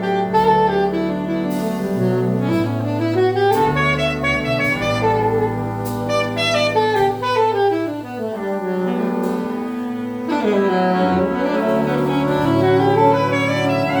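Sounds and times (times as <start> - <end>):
jazz band playing: 0.0 - 14.0.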